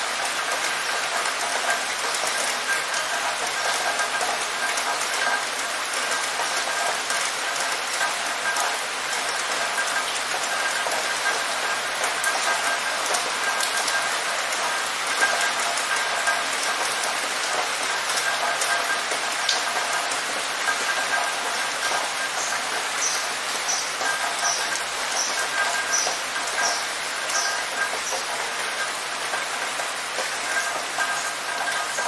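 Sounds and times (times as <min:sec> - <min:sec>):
heavy rain splashing on hard surface: 0:00.0 - 0:32.0.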